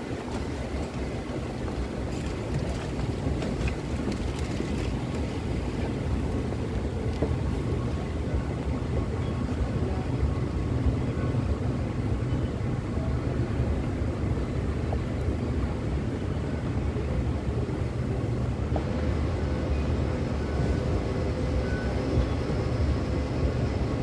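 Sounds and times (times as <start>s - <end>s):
low rumble of metro station: 0.0s - 24.0s.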